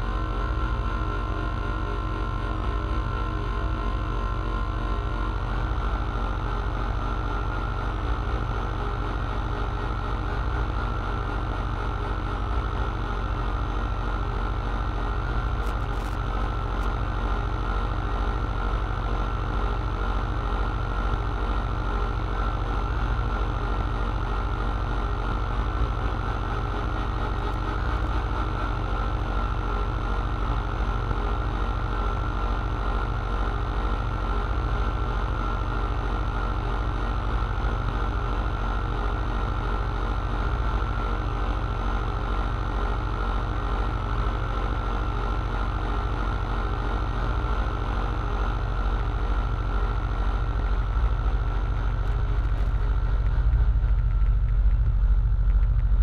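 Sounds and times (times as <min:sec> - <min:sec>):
modular synthesizer low drone: 0:00.0 - 0:56.0.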